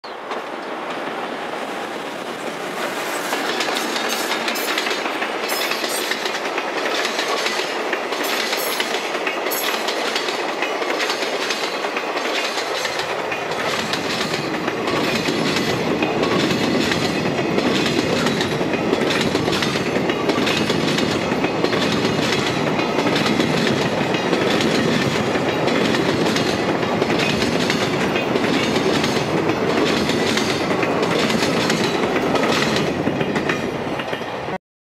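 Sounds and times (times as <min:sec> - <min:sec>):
train wheels clattering over rail joints: 0:02.4 - 0:34.4.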